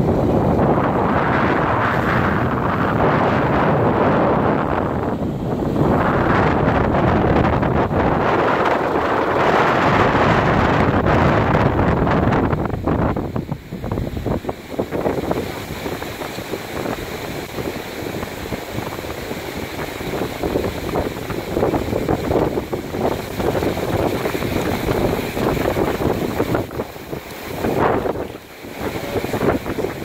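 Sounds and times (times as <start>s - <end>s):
ocean surf washing on sand: 0.0s - 30.0s
wind buffeting microphone: 0.0s - 30.0s.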